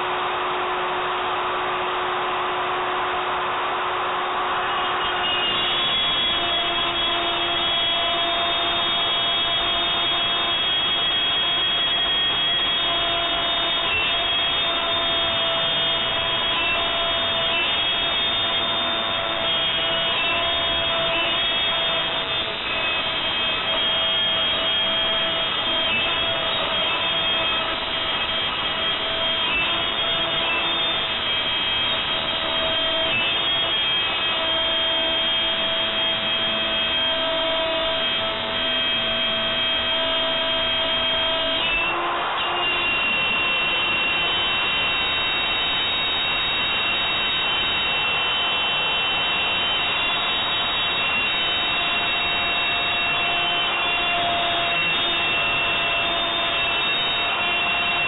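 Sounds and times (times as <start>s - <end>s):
router spindle whining: 1.1s - 58.0s.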